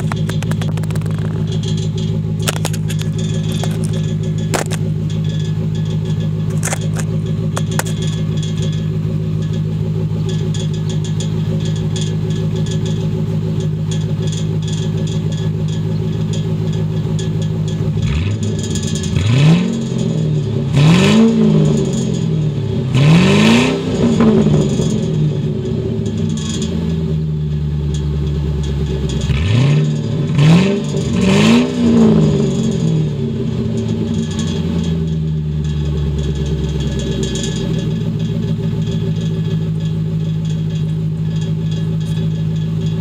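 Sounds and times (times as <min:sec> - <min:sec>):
engine revving: 0:00.0 - 0:27.3, 0:27.9 - 0:43.0
car engine idling: 0:00.0 - 0:43.0.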